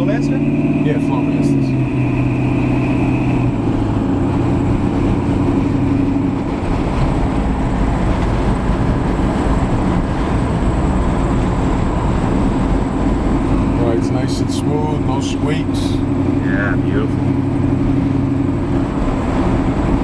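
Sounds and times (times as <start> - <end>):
pickup engine and road noise: 0.0 - 20.0.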